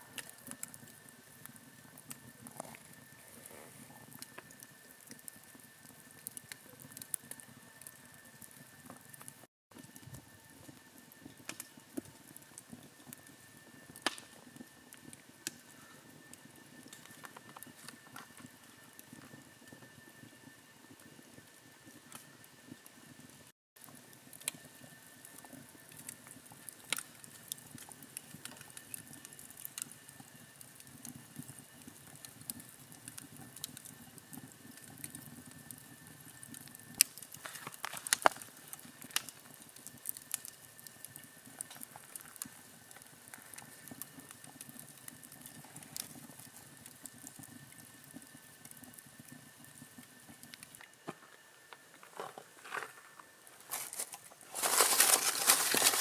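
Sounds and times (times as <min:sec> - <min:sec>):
wood campfire crackling and popping: 0:00.0 - 0:56.0.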